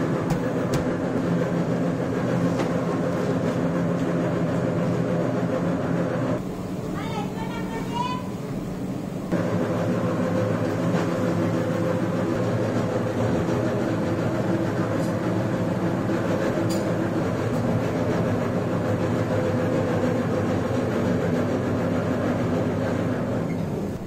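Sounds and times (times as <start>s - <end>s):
electric dough mixer humming: 0.0s - 24.0s.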